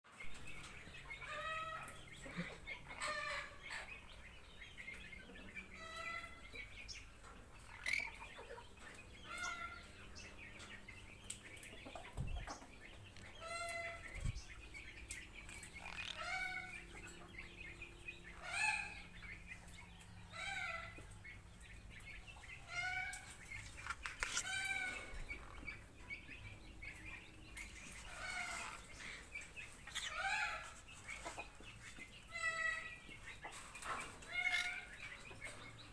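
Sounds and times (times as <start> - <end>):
birds calling: 0.1 - 35.9.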